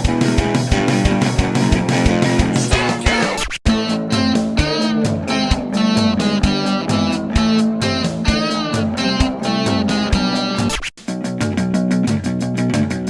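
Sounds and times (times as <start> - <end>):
drums keeping a steady beat: 0.0 - 13.0
guitar: 0.0 - 13.0.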